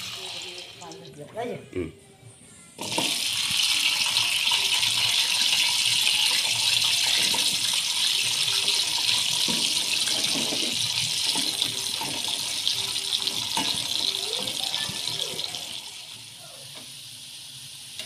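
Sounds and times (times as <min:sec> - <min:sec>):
food sizzling in hot oil: 0:00.0 - 0:01.2, 0:02.8 - 0:18.0.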